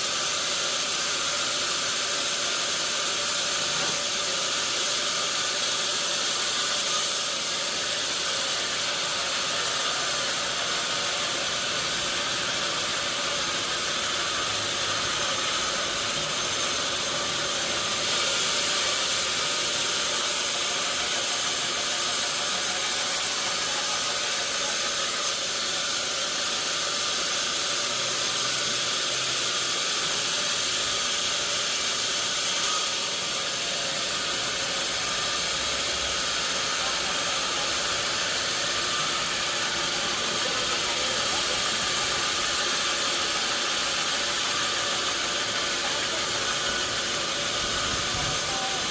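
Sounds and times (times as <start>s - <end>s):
sawmill machinery hiss: 0.0s - 48.9s.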